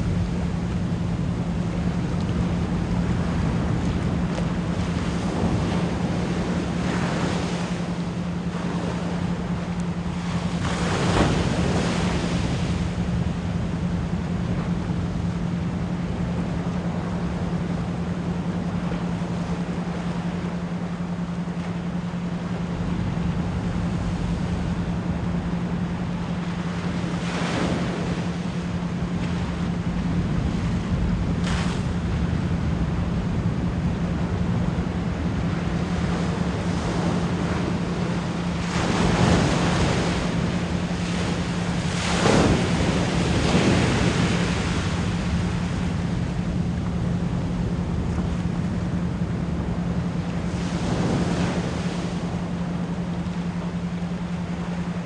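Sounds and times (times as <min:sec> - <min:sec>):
low pulsing pure tone hum: 0:00.0 - 0:55.0
ocean surf washing: 0:00.0 - 0:55.0.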